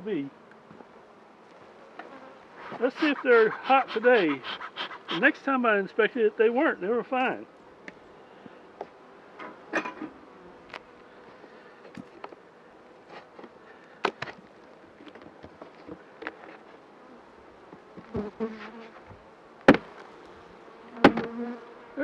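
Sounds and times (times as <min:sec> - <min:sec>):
honeybees buzzing: 0:00.2 - 0:22.0.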